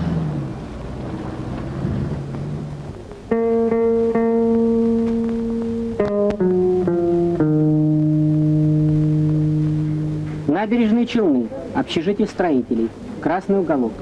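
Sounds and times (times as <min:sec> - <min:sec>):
guitar music: 0:00.1 - 0:11.8.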